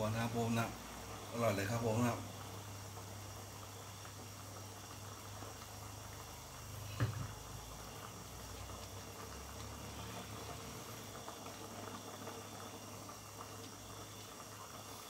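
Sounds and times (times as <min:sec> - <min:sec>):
pot boiling and bubbling: 0:00.0 - 0:15.0.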